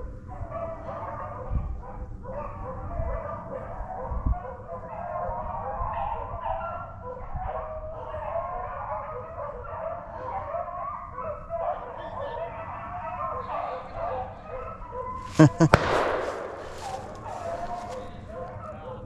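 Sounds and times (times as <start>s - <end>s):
dogs baying and yipping: 0.3s - 15.7s.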